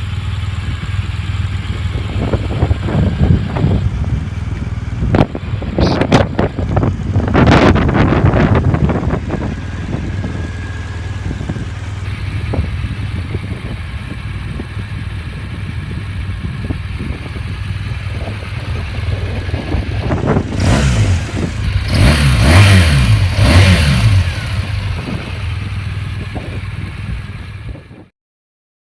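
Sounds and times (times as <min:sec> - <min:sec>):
motorcycle engine idling and revving: 0:00.0 - 0:28.1.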